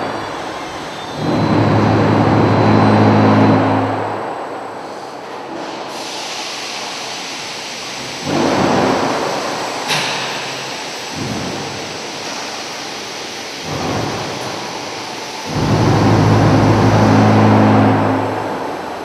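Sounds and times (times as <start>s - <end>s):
machinery rushing rumble: 0.0s - 5.7s, 8.0s - 19.0s.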